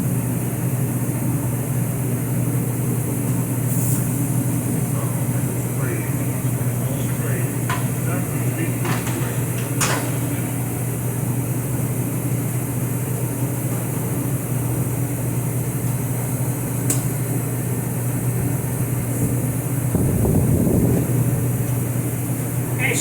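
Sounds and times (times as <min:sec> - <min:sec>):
heater humming: 0:00.0 - 0:23.0.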